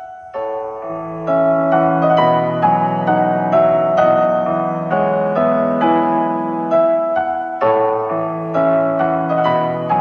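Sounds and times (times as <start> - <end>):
slow keyboard melody: 0.0 - 10.0.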